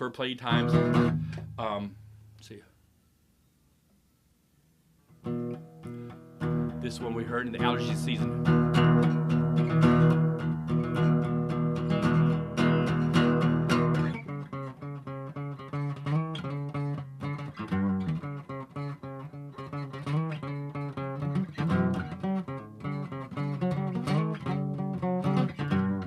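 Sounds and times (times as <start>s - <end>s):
acoustic guitar strumming and picking: 0.1s - 2.4s, 5.1s - 26.0s.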